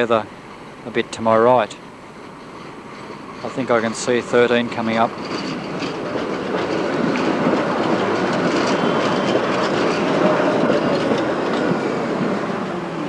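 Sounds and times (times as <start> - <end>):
tram wheels clattering over rail joints: 0.0 - 13.0
high wheel squeal: 2.2 - 13.0.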